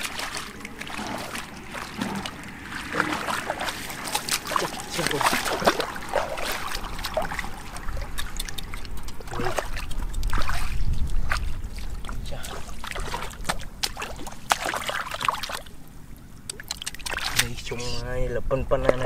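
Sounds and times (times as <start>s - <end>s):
muddy water splashing: 0.0s - 18.0s.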